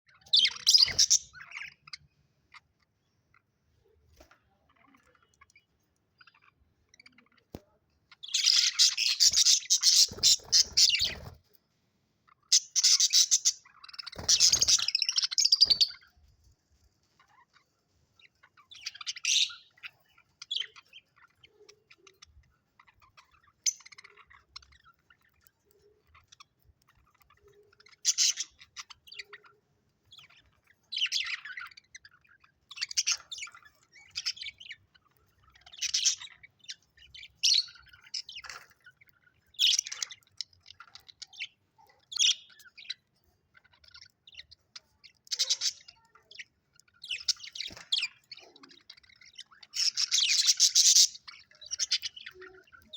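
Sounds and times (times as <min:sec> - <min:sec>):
soft bird twittering: 0:00.0 - 0:52.9
budgerigars chirping: 0:00.1 - 0:03.4, 0:04.7 - 0:11.4, 0:12.3 - 0:16.1, 0:18.2 - 0:52.9.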